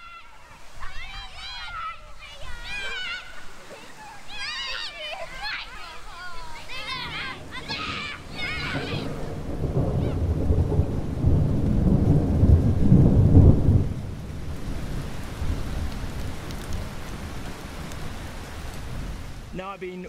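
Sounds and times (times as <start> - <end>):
steady rain: 0.0 - 20.0
wind buffeting microphone: 0.6 - 19.6.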